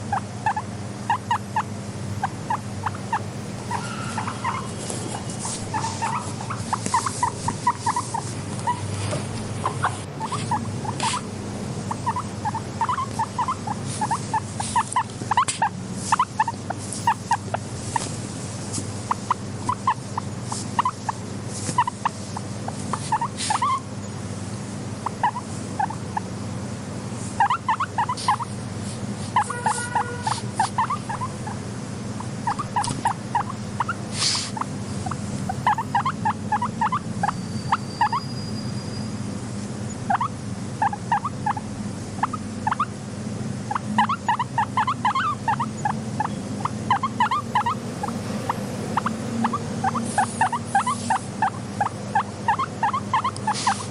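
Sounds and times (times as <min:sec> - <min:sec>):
guinea pigs squeaking: 0:00.0 - 0:24.1, 0:25.0 - 0:26.3, 0:27.2 - 0:39.2, 0:39.9 - 0:43.0, 0:43.6 - 0:53.9
low background hum: 0:00.0 - 0:53.9.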